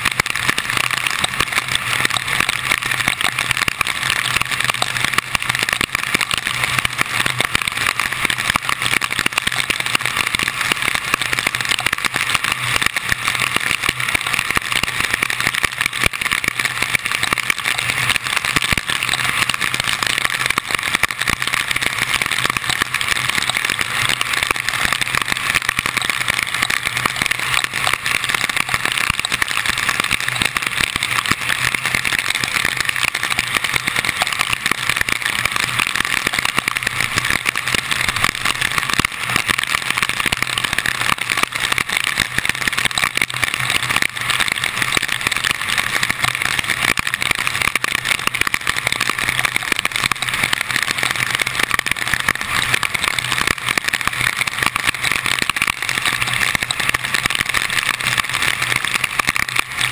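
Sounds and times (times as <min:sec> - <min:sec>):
raindrops pattering on camera: 0:00.0 - 0:59.9.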